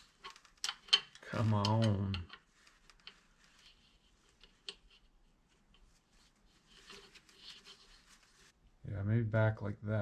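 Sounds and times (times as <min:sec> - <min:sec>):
faint clicks and scrapes: 0:00.0 - 0:08.6.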